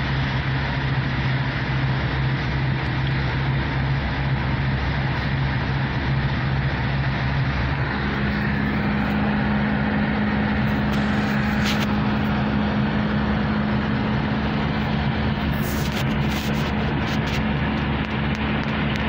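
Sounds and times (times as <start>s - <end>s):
low engine hum: 0.0s - 19.0s
road noise inside car: 0.0s - 19.0s.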